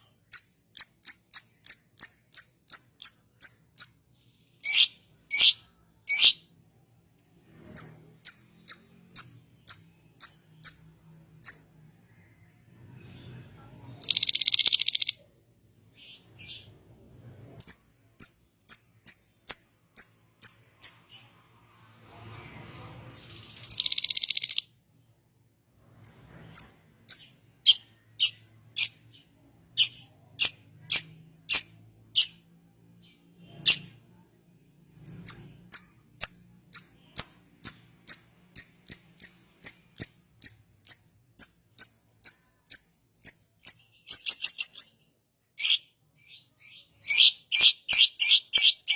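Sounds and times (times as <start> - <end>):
bird chirping: 0.0 - 12.3, 14.0 - 16.8, 17.6 - 21.4, 23.2 - 24.7, 26.0 - 34.0, 34.6 - 48.9.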